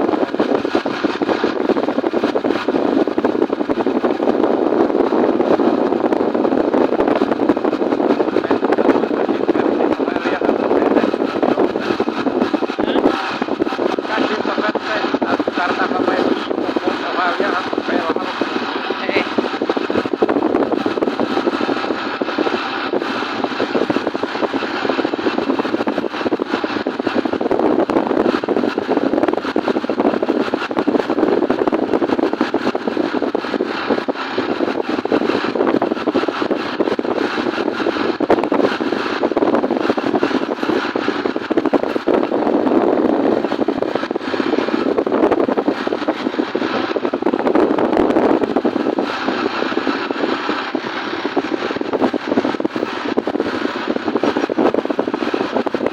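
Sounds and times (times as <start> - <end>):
motorcycle engine running: 0.0 - 55.9
rushing air: 0.0 - 55.9.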